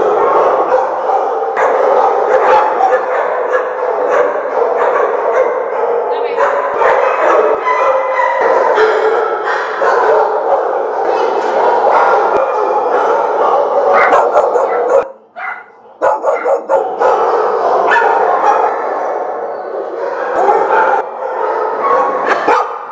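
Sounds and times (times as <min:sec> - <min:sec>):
dogs barking and yipping: 0:00.0 - 0:22.9.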